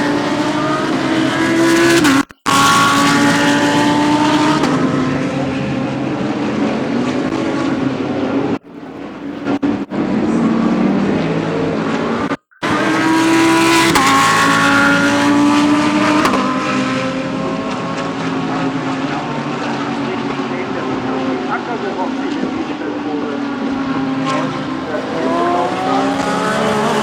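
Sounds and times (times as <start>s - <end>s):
race cars passing: 0.0s - 27.0s.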